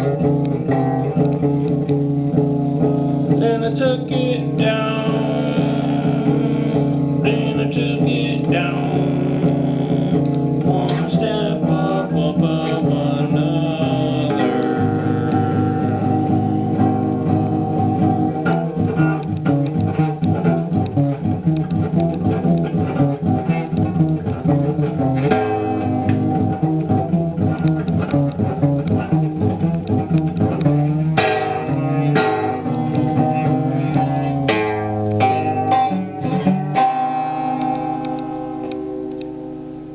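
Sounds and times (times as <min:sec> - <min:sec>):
guitar picking and strumming: 0:00.0 - 0:39.9.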